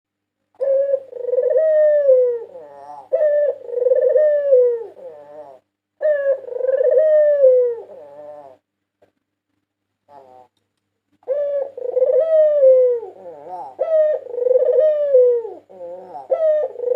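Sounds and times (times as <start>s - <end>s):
dove cooing: 0.6s - 8.7s, 10.1s - 10.6s, 11.2s - 16.9s.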